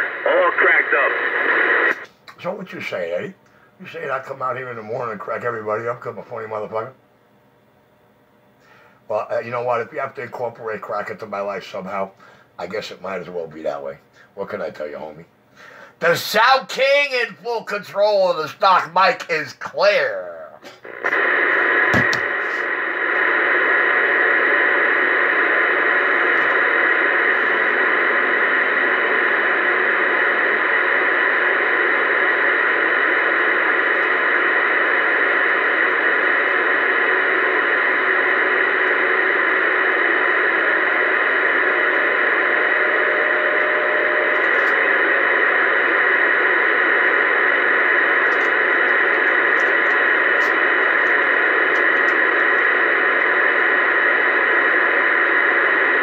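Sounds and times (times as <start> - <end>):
radio static hiss: 0.0 - 7.0, 8.6 - 56.0.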